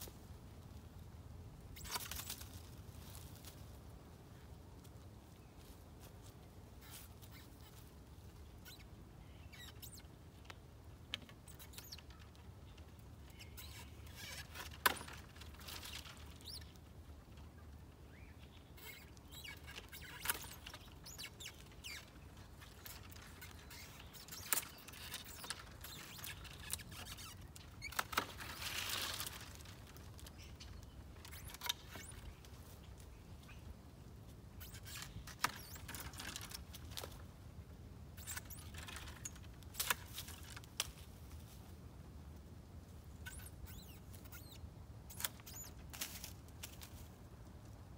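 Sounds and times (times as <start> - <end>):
twigs rustling through tree: 0.0 - 47.9.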